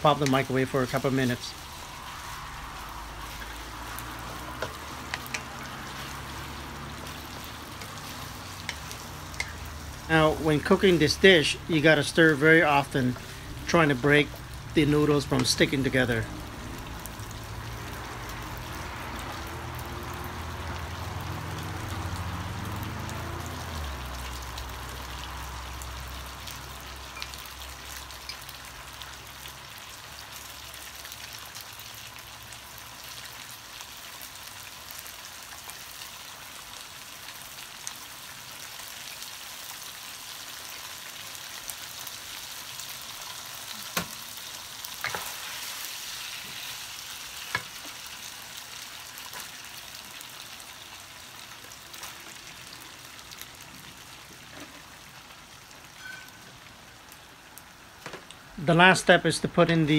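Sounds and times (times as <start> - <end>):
food sizzling in a wok: 0.0 - 58.6.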